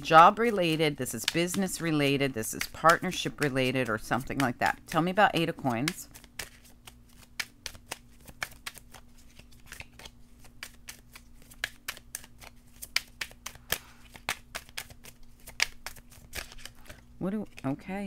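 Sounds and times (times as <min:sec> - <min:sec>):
cards being shuffled: 0:00.0 - 0:17.6.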